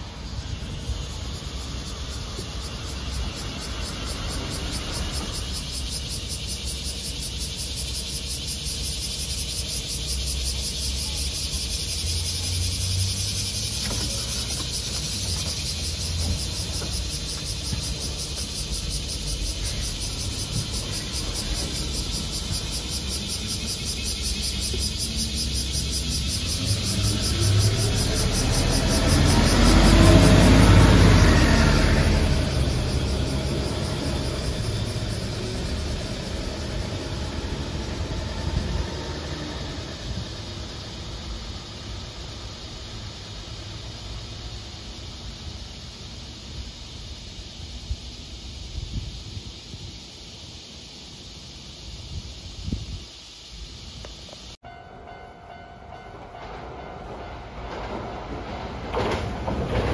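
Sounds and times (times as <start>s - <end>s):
bus engine rumbling: 0.0s - 49.9s, 50.5s - 59.9s
cicadas chorus: 0.0s - 59.9s.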